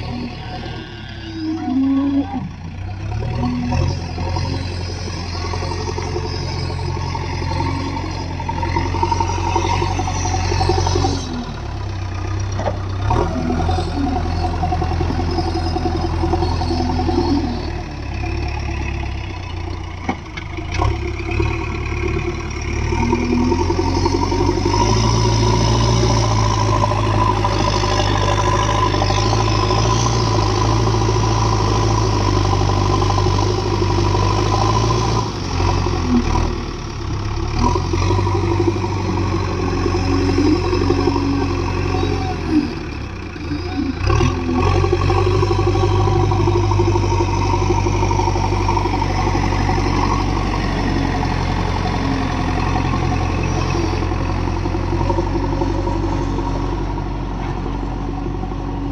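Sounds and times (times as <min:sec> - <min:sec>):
diesel engine revving: 0:00.0 - 0:58.9.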